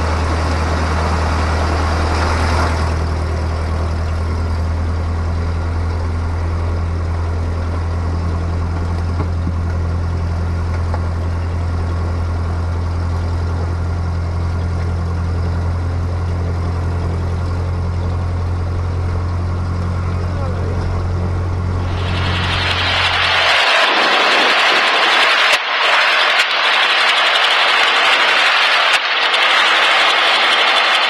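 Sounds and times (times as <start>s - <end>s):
light aircraft engine droning: 0.0s - 31.0s.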